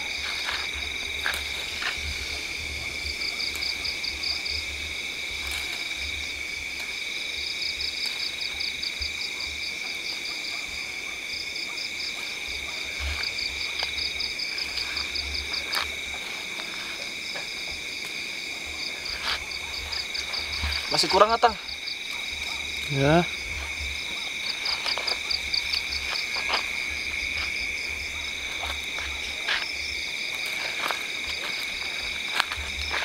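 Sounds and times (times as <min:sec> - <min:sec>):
frogs and insects trilling: 0:00.0 - 0:33.0.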